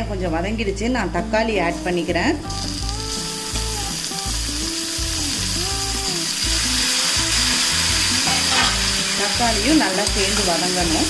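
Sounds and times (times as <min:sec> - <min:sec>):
soft instrumental music: 0:00.2 - 0:11.0
vegetables sizzling in oil: 0:01.8 - 0:11.0.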